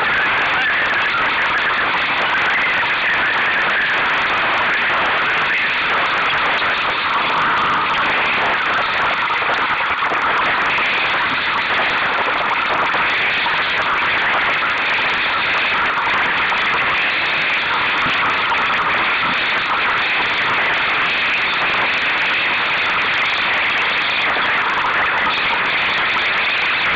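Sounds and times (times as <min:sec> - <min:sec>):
wind and water rushing: 0:00.0 - 0:26.9.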